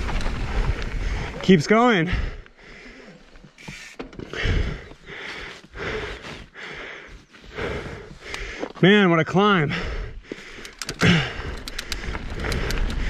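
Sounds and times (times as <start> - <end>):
person breathing hard: 0.6 - 8.8, 9.6 - 13.0.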